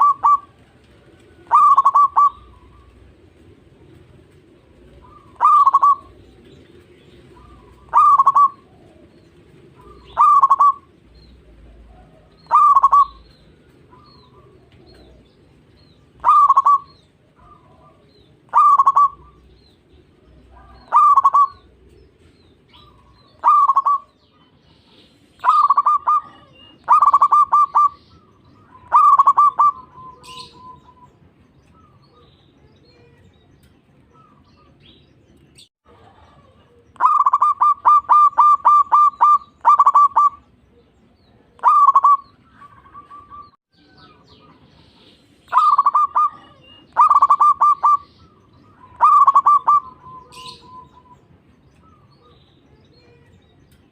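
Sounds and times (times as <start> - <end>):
dove cooing: 0.0 - 32.4, 35.9 - 53.2.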